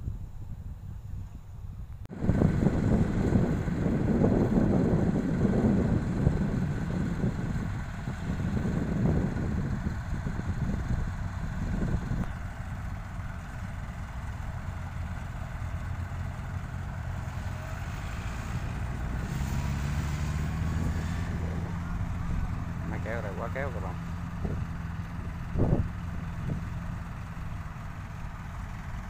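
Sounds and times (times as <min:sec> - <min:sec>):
diesel engine humming: 0:00.0 - 0:29.0
rough rumble: 0:00.0 - 0:29.0.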